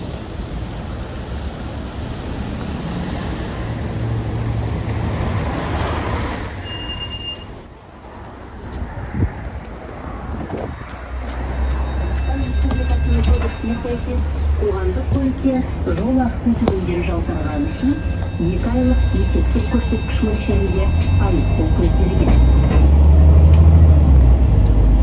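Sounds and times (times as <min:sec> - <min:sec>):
bus engine and road drone: 0:00.0 - 0:25.0.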